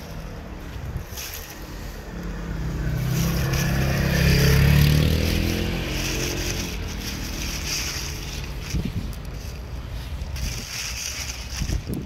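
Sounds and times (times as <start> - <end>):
motor vehicle passing: 0.0 - 12.0.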